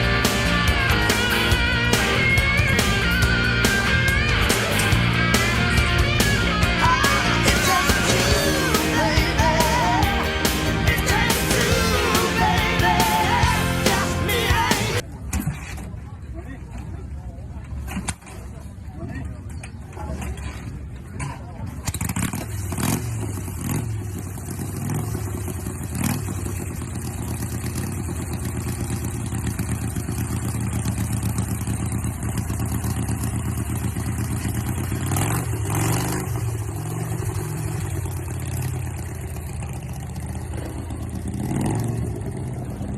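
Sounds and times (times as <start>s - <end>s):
motorcycle engine running: 0.0s - 15.0s, 21.5s - 42.9s.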